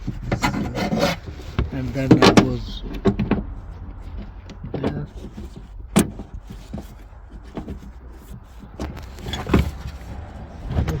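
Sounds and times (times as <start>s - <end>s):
knocks and clicks of plastic parts: 0.0s - 11.0s
steady low rumble: 0.0s - 11.0s.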